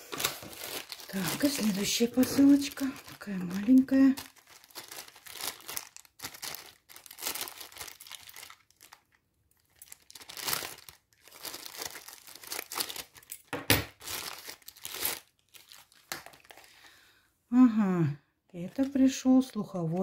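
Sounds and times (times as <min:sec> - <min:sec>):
plastic bag crinkling: 0:00.0 - 0:17.0, 0:18.6 - 0:20.0.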